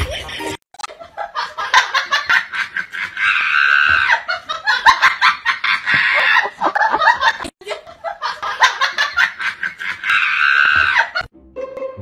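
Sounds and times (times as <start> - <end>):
person laughing: 0.0 - 11.3.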